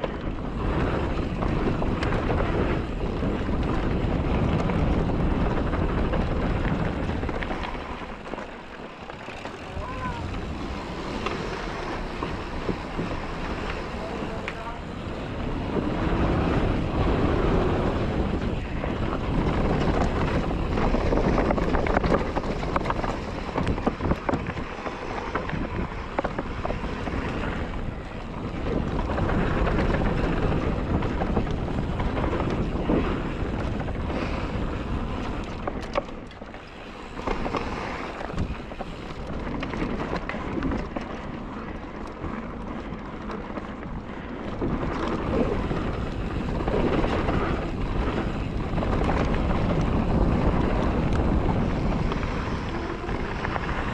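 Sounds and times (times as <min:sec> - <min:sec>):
bike clicks and knocks: 0:00.0 - 0:53.9
bike tyre noise: 0:00.0 - 0:53.9
wind buffeting microphone: 0:00.0 - 0:53.9.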